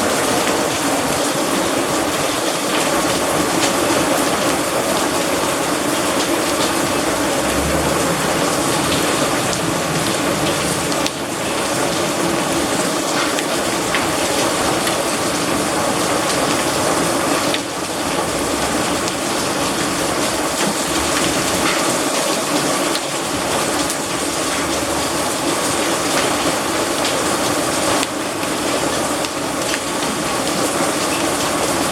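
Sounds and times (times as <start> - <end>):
hail striking hard surfaces: 0.0 - 31.9
heavy rain: 0.0 - 31.9.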